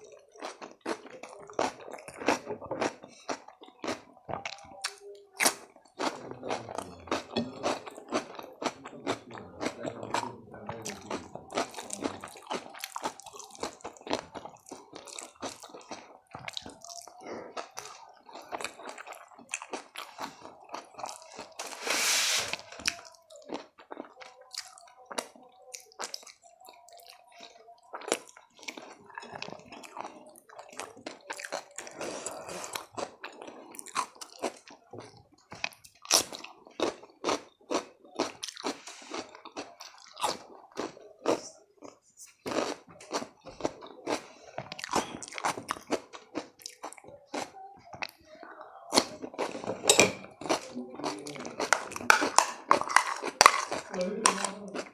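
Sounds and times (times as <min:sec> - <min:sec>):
person chewing and crunching food: 0:00.0 - 0:54.9.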